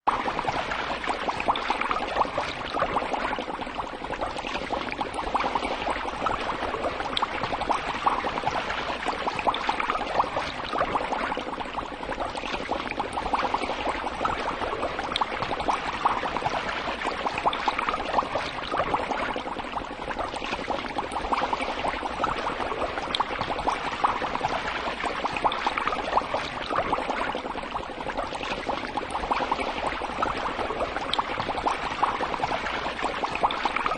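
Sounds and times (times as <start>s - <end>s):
aquarium water bubbling: 0.0s - 33.9s.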